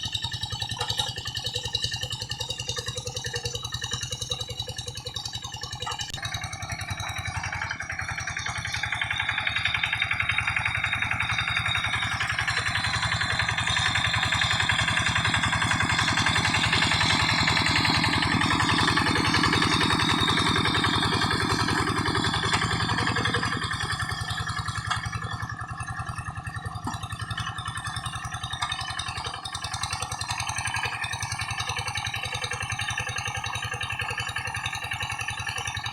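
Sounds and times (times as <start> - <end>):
diesel engine running under load: 0.0 - 35.9.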